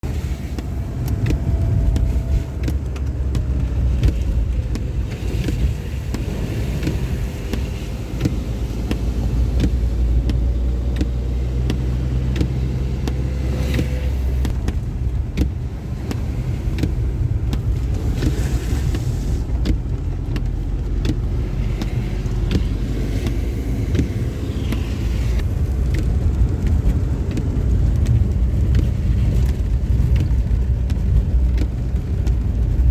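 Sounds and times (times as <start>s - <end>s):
car road and engine rumble: 0.0s - 32.9s
rain striking a car: 0.0s - 32.9s.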